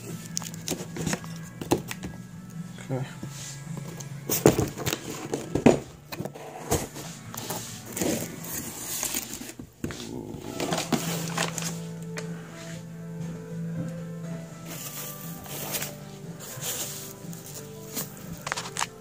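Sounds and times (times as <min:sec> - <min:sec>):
cardboard and plastic rustling: 0:00.0 - 0:02.2, 0:03.3 - 0:12.2, 0:14.6 - 0:19.0.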